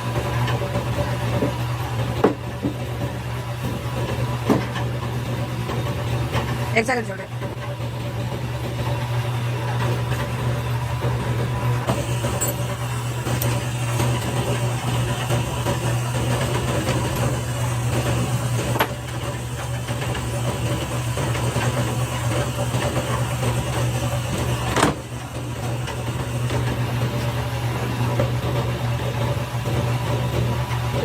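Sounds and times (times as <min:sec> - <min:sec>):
factory machinery humming: 0:00.0 - 0:31.0.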